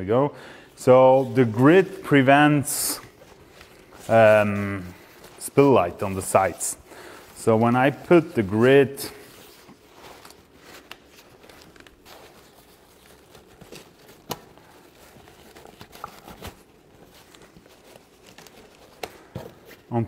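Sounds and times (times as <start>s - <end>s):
fabric rustling and crinkling: 0.7s - 20.0s.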